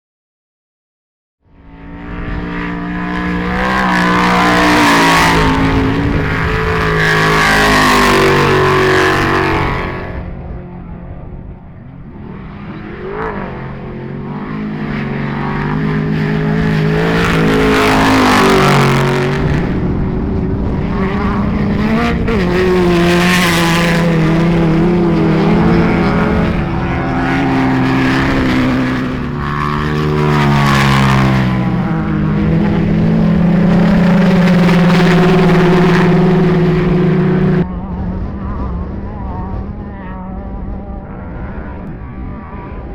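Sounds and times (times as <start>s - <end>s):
off-road vehicle engines revving: 1.6s - 42.9s.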